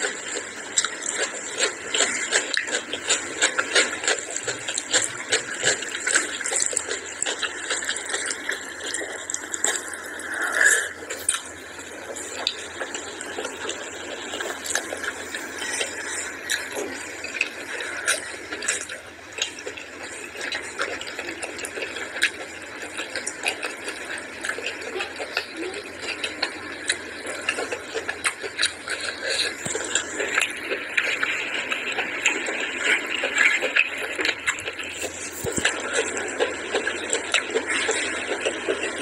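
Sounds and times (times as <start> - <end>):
chewing and lip-smacking: 0.0 - 39.0
fingers squelching wet rice: 0.0 - 39.0.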